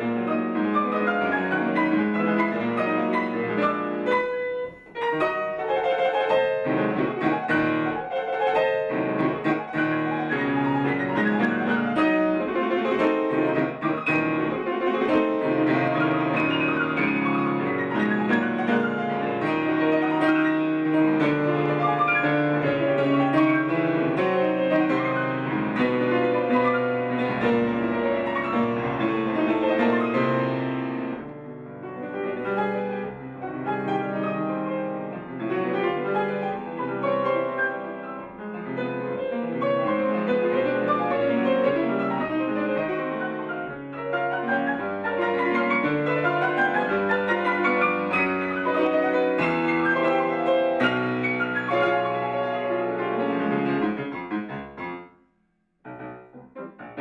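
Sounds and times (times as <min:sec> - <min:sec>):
classical piano music: 0:00.0 - 0:57.0.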